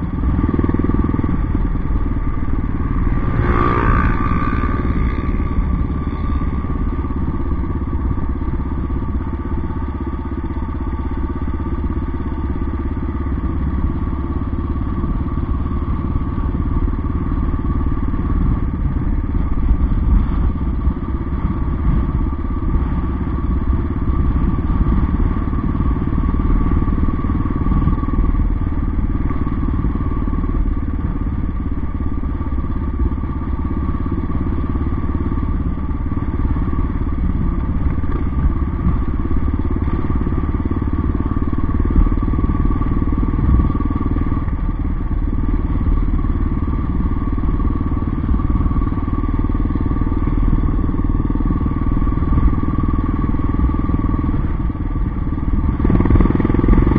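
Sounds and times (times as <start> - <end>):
motorcycle engine rumbling: 0.0 - 56.9.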